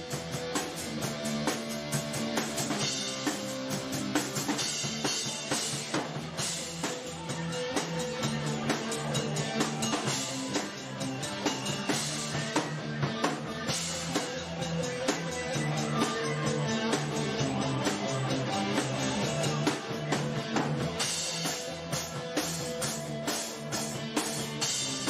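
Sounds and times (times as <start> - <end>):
drum-kit beat: 0.0 - 25.0.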